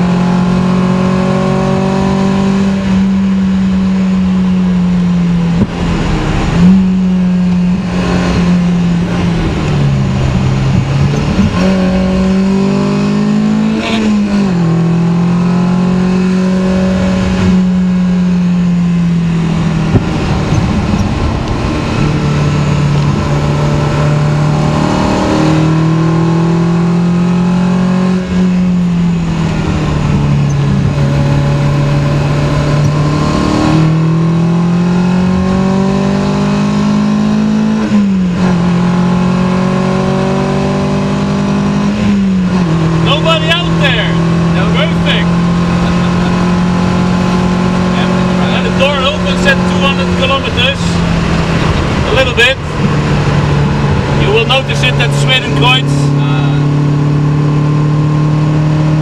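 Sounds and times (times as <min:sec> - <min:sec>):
car engine accelerating hard: 0:00.0 - 0:59.0
road and wind noise: 0:00.0 - 0:59.0.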